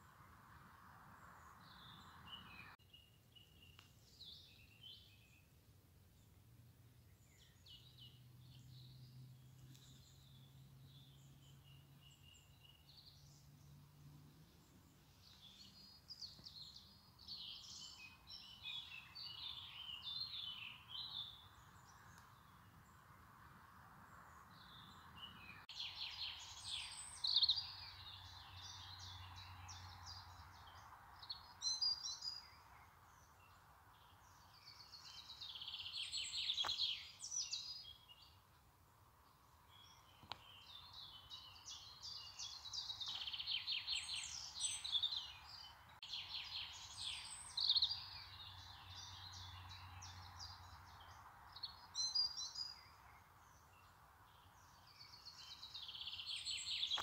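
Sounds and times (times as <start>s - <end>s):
bird singing trills and chirps: 1.1s - 6.4s, 7.0s - 57.0s.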